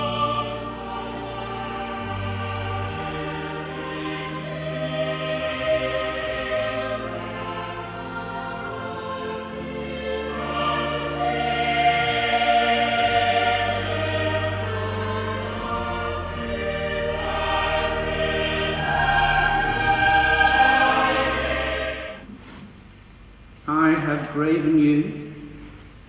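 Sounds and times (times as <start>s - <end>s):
choir singing held chords: 0.0s - 22.3s.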